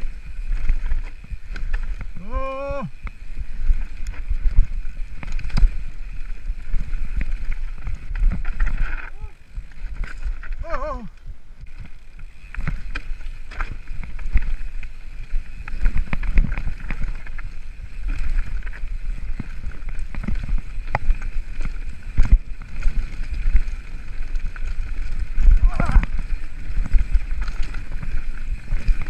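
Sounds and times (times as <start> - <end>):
bike knocking and rattling: 0.0 - 29.0
wind and tyre rumble: 0.0 - 29.0.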